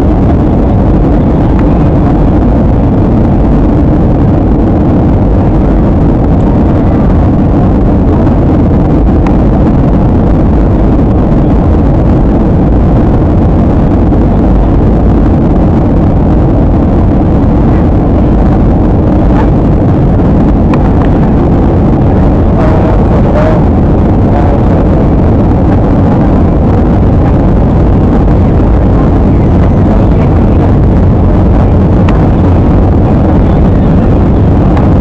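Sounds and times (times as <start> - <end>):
airliner cabin engine rush: 0.0 - 35.0.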